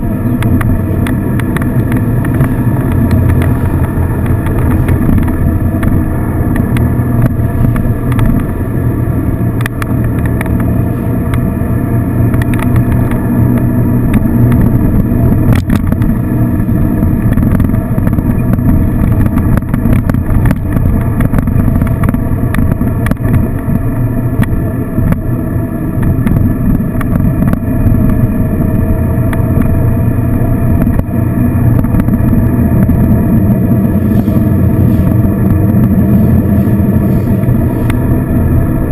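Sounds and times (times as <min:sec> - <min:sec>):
motorcycle engine cruising: 0:00.0 - 0:38.9
road and wind noise: 0:00.0 - 0:38.9.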